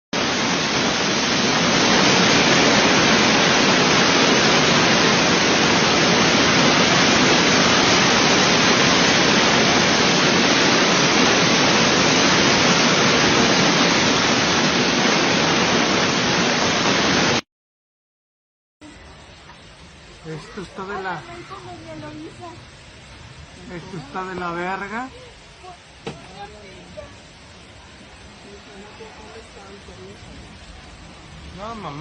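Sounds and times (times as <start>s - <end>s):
heavy hail falling: 0.2s - 17.4s, 20.0s - 32.0s.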